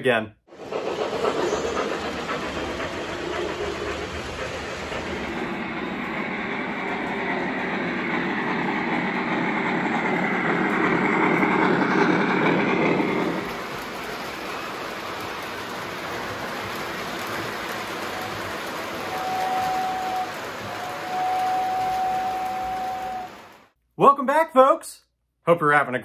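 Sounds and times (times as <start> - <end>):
model trains rolling and clacking: 0.5 - 23.8.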